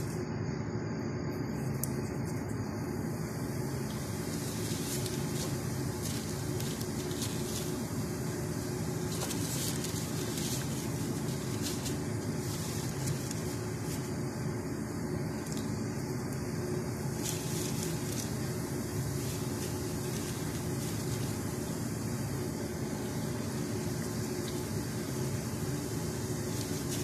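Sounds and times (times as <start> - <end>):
steady low hum: 0.0 - 27.0
dough frying in hot oil: 2.7 - 27.0.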